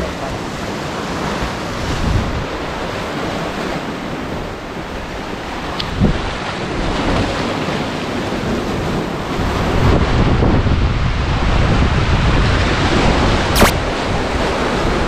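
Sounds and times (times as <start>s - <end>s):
waves breaking on rocks: 0.0s - 15.0s
wind buffeting microphone: 0.0s - 15.0s.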